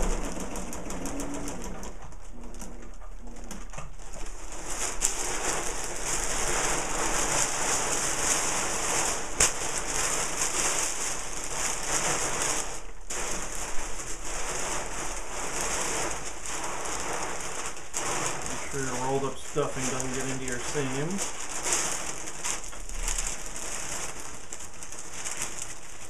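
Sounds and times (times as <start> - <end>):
kite fabric rustling: 0.0 - 26.0.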